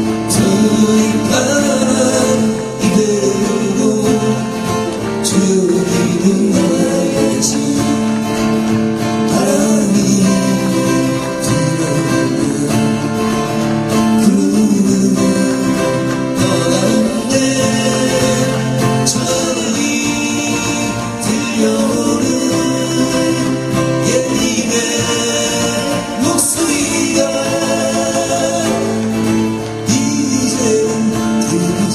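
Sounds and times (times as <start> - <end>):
person singing: 0.0 - 31.9
strummed acoustic guitar: 0.0 - 31.9.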